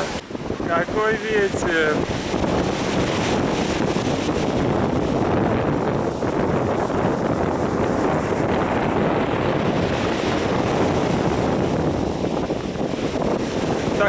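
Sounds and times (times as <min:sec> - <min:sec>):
sea surf breaking on shore: 0:00.0 - 0:14.0
wind buffeting microphone: 0:00.0 - 0:14.0.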